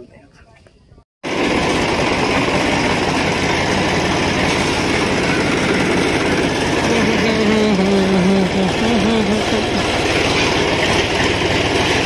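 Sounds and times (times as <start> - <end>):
tractor diesel engine running: 1.2 - 12.0.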